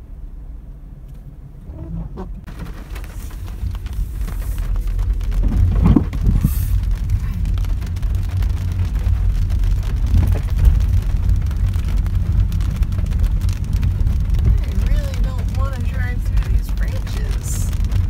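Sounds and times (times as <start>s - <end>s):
road and tyre noise inside car: 0.0s - 18.0s.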